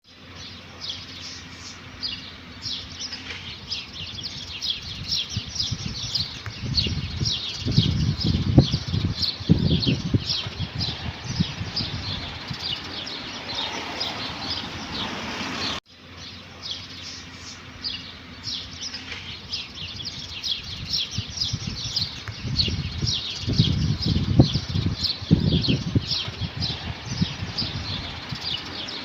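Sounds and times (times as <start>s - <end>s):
small birds chirping: 0.0s - 29.0s
low rumbling noise: 0.1s - 29.0s.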